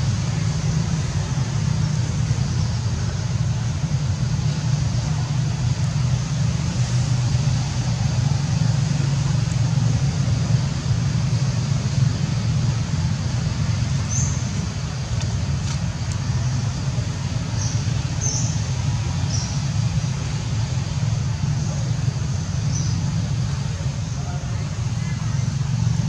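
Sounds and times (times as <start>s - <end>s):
low rumble with hiss: 0.0s - 26.0s.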